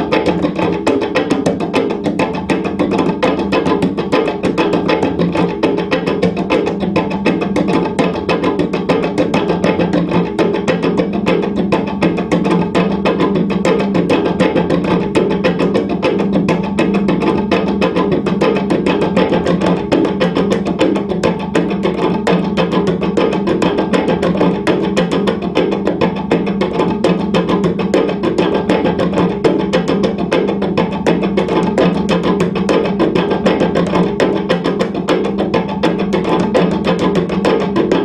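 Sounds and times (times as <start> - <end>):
tapping on cello strings and body: 0.0 - 38.0.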